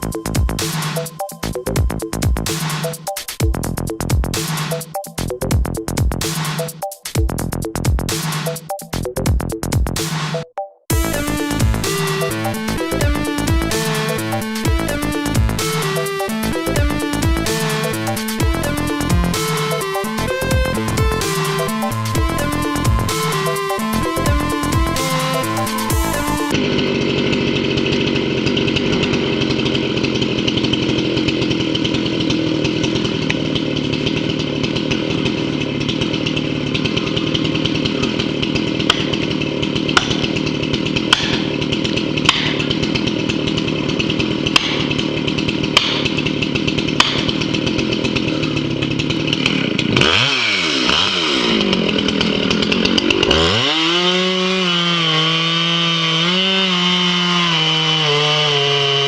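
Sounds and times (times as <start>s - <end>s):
chainsaw cutting timber: 0.0s - 59.0s.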